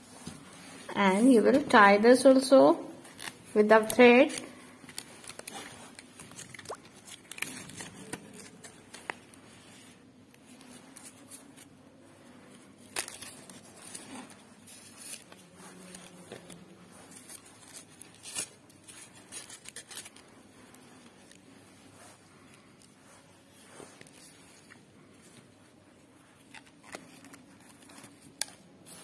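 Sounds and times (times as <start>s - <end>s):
paper rustling and crackling: 3.0s - 29.0s.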